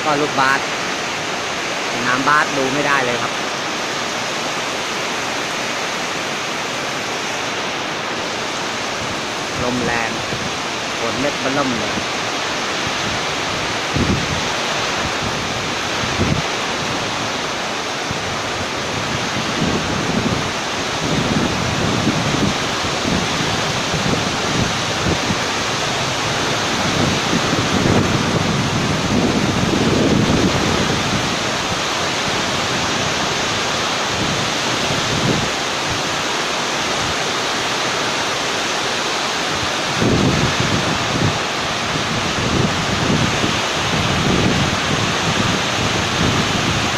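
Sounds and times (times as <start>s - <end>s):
heavy rain pouring: 0.0s - 46.9s
wind gusts buffeting microphone: 0.0s - 46.9s.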